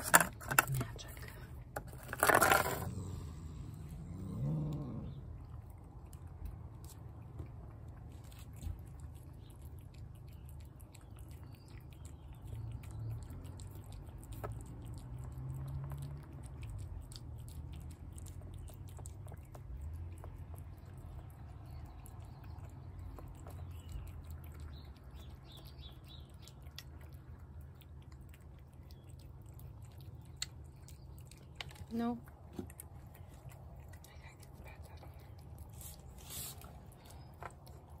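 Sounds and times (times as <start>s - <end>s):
cat chewing and lapping: 0.0s - 38.0s.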